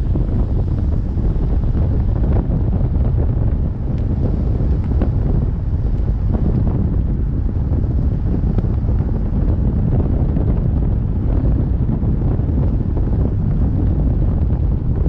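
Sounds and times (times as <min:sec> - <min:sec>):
vehicle driving on asphalt: 0:00.0 - 0:15.0
wind buffeting microphone: 0:00.0 - 0:15.0.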